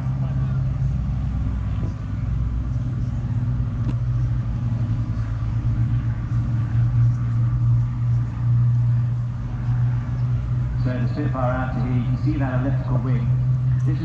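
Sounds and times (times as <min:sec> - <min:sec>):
propeller aircraft droning: 0:00.0 - 0:14.0.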